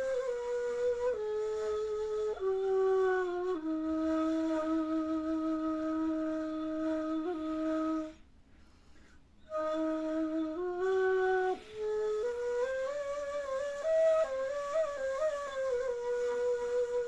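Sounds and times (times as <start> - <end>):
solo flute improvising: 0.0 - 17.0.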